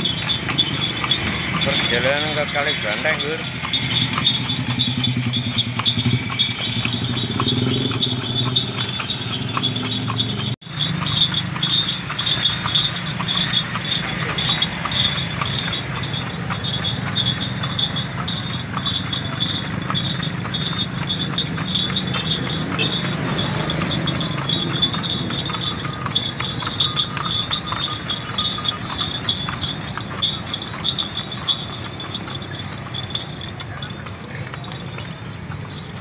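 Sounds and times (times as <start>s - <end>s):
harness jingling: 0.0s - 36.0s
horse hooves clip-clopping on asphalt: 0.0s - 36.0s
motorbike traffic hum: 0.0s - 36.0s.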